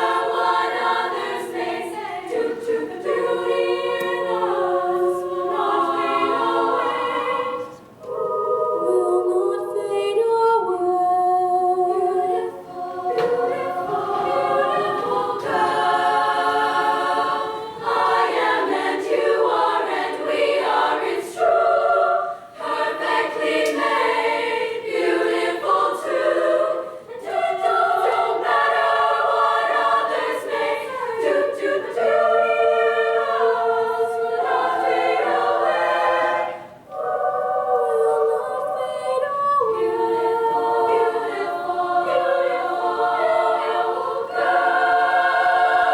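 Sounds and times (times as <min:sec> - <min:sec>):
choir singing in harmony: 0:00.0 - 0:45.9.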